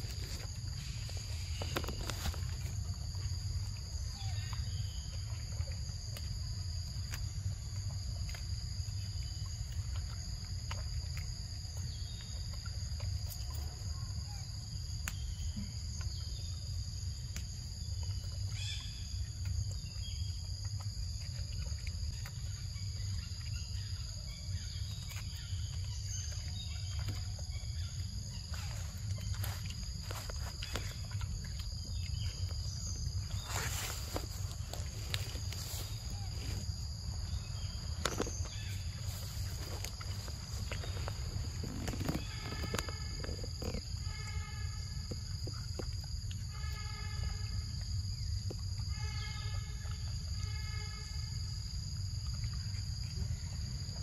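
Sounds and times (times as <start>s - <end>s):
constant low rumble: 0.0s - 54.0s
insects buzzing: 0.0s - 54.0s.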